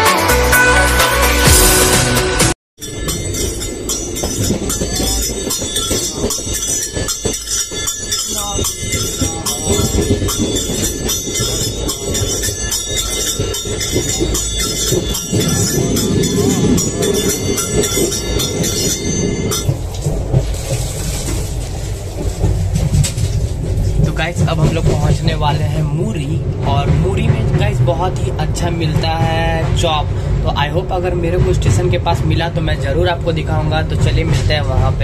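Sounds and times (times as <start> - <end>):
train wheels rumbling on track: 2.8 - 35.0.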